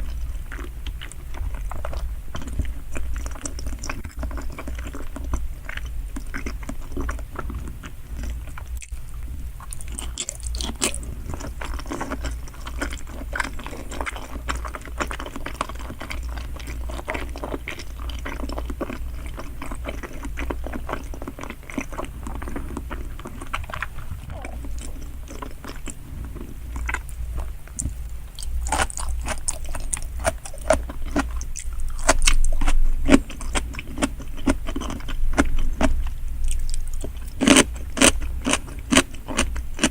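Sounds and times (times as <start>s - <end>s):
chewing and biting sushi: 0.0s - 39.9s.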